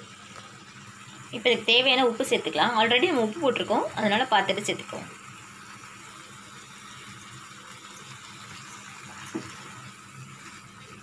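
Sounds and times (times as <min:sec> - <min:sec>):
gravy simmering with hiss: 0:00.0 - 0:11.0.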